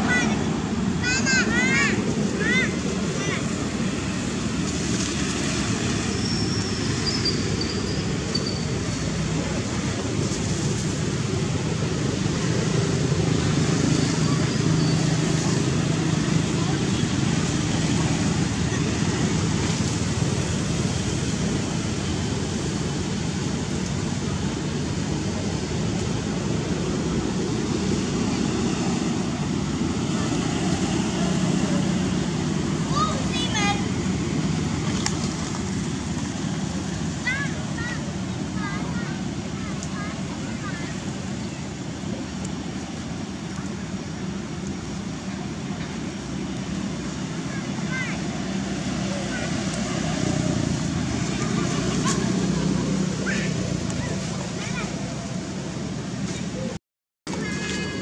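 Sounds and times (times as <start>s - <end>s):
rushing outdoor background noise: 0.0s - 58.0s.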